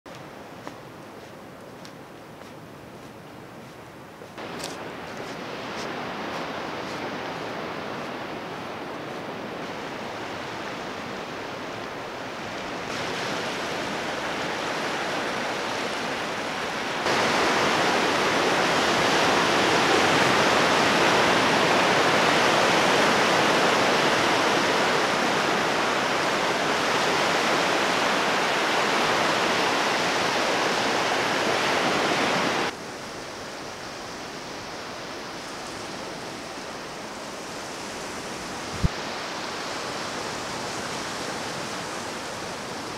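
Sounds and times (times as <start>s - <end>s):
waves washing on rocky shore: 4.4s - 42.9s.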